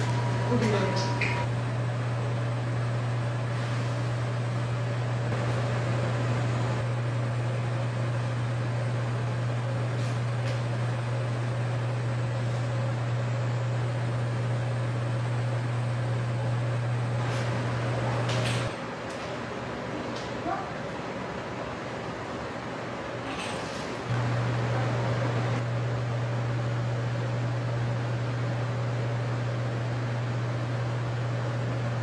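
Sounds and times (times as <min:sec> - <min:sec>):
machine hum with hiss: 0:00.0 - 0:32.0.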